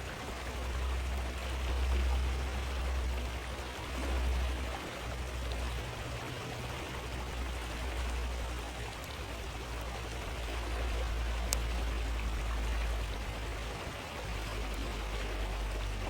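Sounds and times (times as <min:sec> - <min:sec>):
rush of flowing river: 0:00.0 - 0:16.0.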